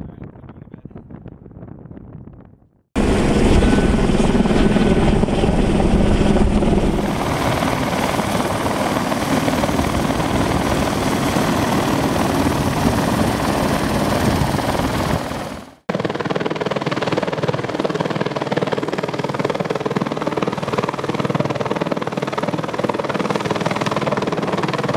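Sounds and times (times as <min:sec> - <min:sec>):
helicopter hovering: 0:03.0 - 0:24.9.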